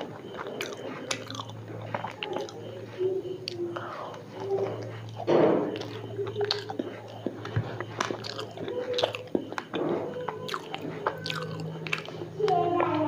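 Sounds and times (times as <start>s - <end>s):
moist mouth sounds: 0.0s - 12.6s
biting and chewing fried pastry: 0.0s - 13.0s.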